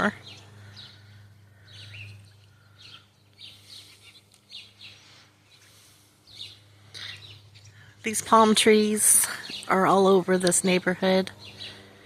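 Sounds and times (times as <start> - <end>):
faint low hum: 0.0 - 12.0
small birds chirping: 0.0 - 12.0.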